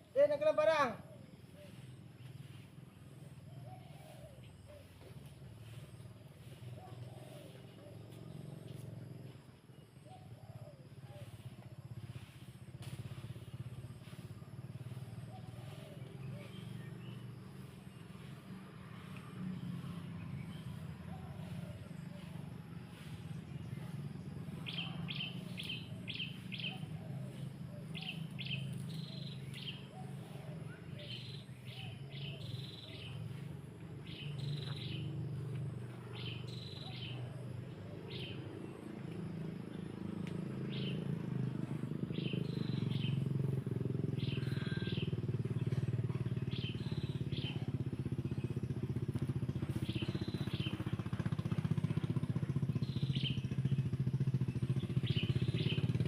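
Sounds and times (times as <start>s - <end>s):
birds chirping: 0.0s - 56.0s
small engine droning: 0.0s - 56.0s.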